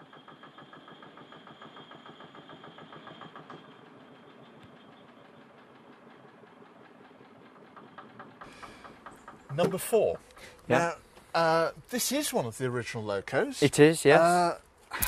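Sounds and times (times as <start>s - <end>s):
diesel engine running: 0.0s - 13.4s.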